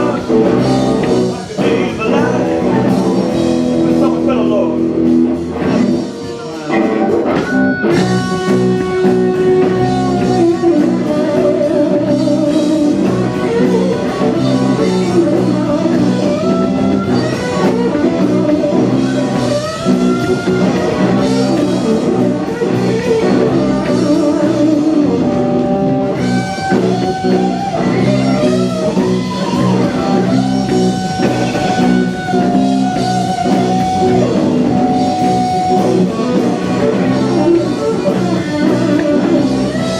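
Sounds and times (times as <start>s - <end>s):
electric guitar lead notes: 0.0s - 39.9s
rock band backing with drums: 0.0s - 39.9s.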